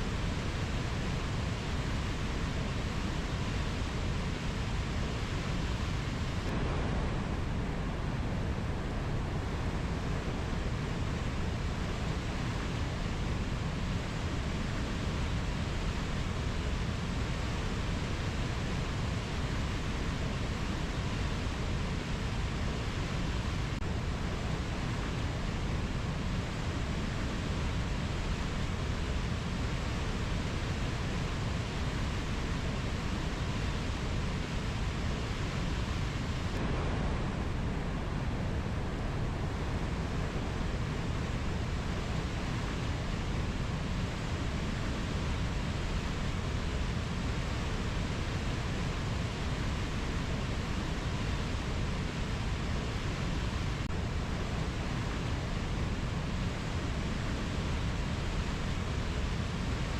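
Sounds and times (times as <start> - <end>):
nature ambience rushing noise: 0.0 - 59.9.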